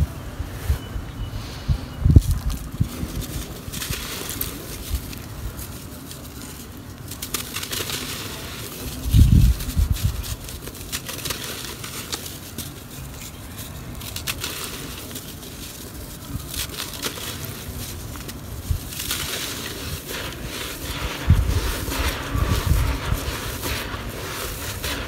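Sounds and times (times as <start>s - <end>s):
dry dirt crunching in fingers: 2.0s - 25.0s.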